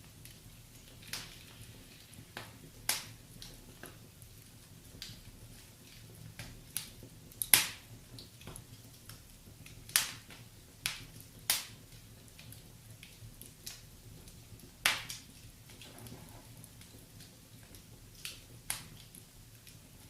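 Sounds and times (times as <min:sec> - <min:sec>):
fire pops: 0:00.0 - 0:20.0
wood fire crackling: 0:00.0 - 0:20.0.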